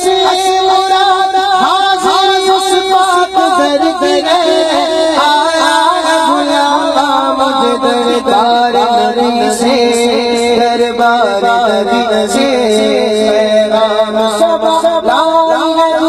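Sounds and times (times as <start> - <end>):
man singing through loudspeaker: 0.0 - 16.0.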